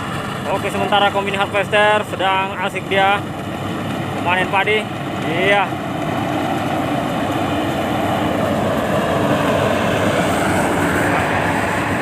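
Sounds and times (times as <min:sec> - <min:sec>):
combine harvester humming: 0:00.0 - 0:12.0.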